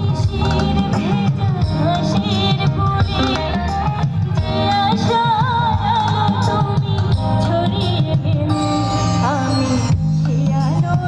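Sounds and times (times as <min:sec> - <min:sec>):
drums: 0:00.0 - 0:11.0
electric guitars: 0:00.0 - 0:11.0
keyboard: 0:00.0 - 0:11.0.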